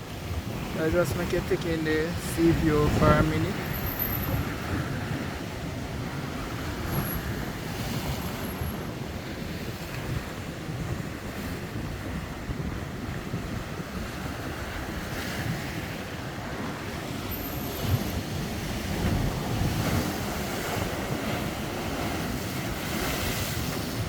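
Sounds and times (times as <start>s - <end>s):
heavy surf breaking on shore: 0.0s - 24.0s
wind buffeting microphone: 0.0s - 24.0s.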